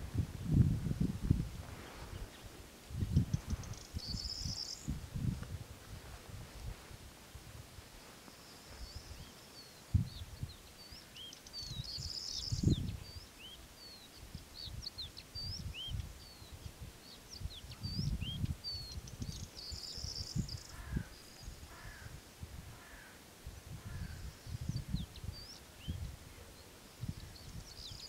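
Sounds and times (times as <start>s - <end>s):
wind rumbling on microphone: 0.0s - 28.0s
small birds chirping: 1.3s - 5.4s, 7.9s - 28.0s
lower bird calls: 2.0s - 5.0s, 8.0s - 28.0s.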